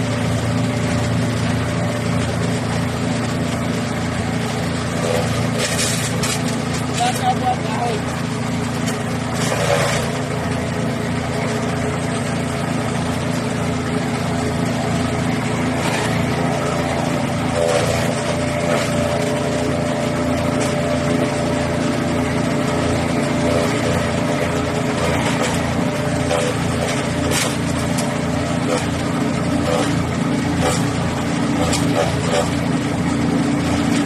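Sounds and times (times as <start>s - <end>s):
wood chipper engine running: 0.0s - 34.0s.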